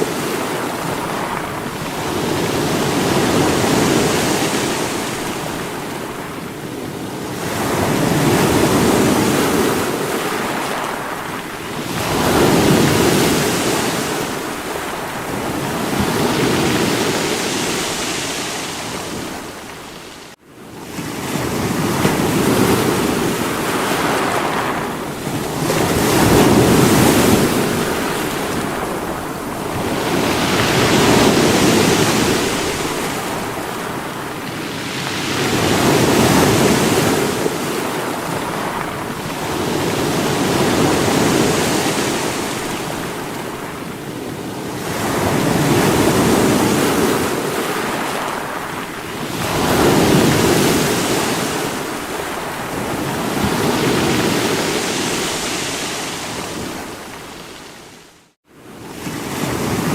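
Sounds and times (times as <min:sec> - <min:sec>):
sea waves breaking against rocks: 0:00.0 - 0:58.0.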